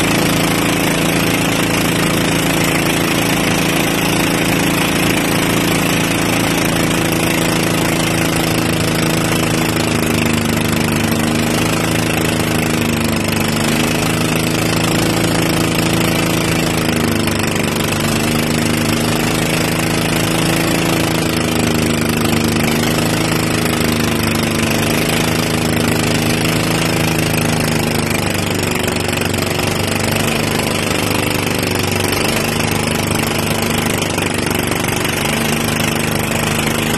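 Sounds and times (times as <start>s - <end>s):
boat engine running: 0.0s - 36.9s.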